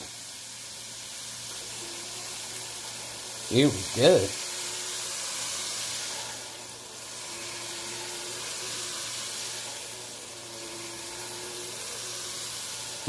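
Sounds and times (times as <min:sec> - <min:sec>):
motorized stirring paddle: 0:00.0 - 0:13.0
vegetables sizzling in butter: 0:00.0 - 0:13.0.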